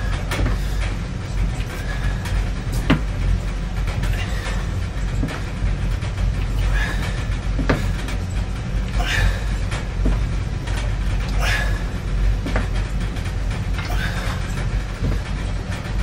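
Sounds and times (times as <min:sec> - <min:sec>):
footsteps thudding: 0:00.0 - 0:16.0
steady low rumble: 0:00.0 - 0:16.0.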